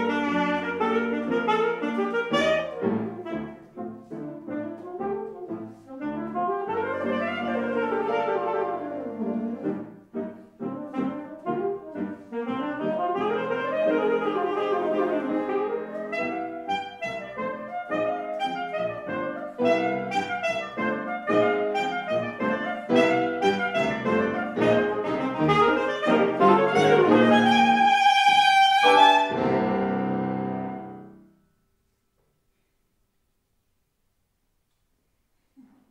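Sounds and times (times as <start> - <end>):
alto saxophone: 0.0 - 31.2
piano accompaniment: 0.0 - 31.4.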